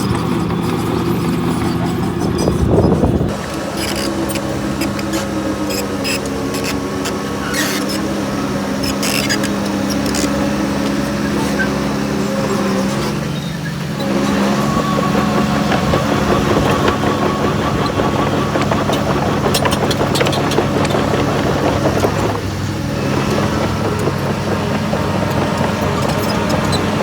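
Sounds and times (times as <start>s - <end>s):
diesel engine running under load: 0.0s - 27.0s.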